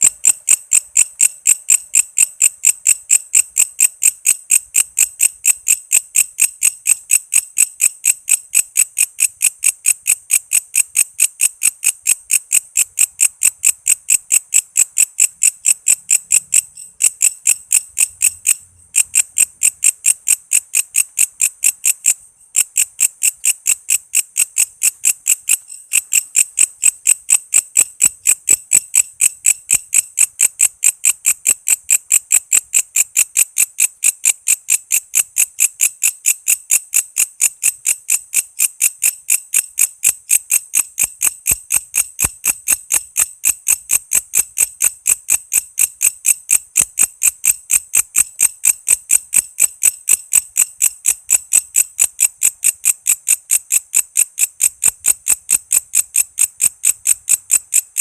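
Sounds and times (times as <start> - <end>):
insect chirping in regular pulses: 0.0 - 58.0.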